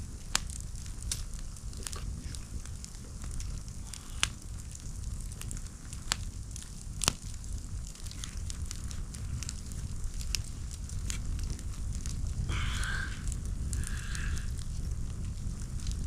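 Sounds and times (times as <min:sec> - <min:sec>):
campfire crackling: 0:00.0 - 0:16.0
steady low rumble: 0:00.0 - 0:16.0.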